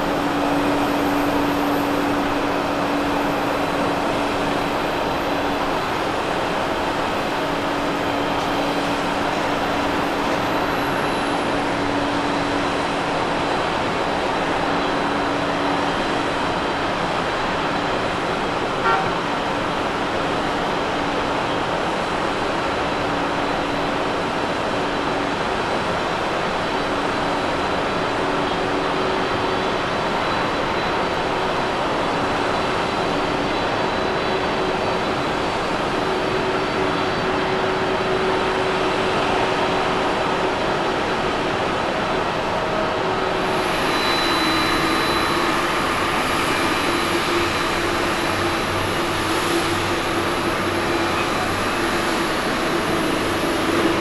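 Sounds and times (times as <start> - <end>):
jet engines with high whine: 0.0 - 54.0.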